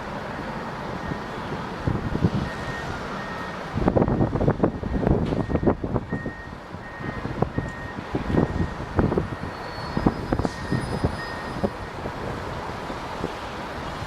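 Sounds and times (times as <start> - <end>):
low buffeting: 0.0 - 13.4.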